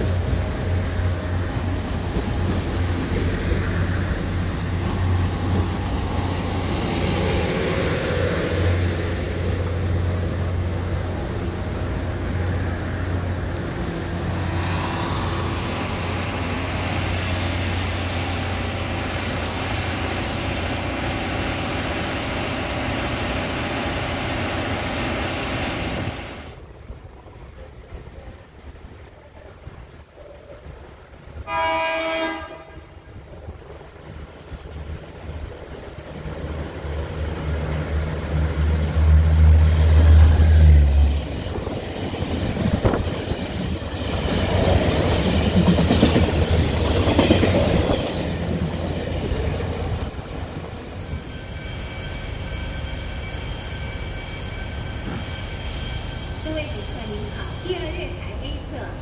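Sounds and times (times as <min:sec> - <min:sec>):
train wheels rumbling on rails: 0:00.0 - 0:31.5, 0:32.2 - 0:59.0.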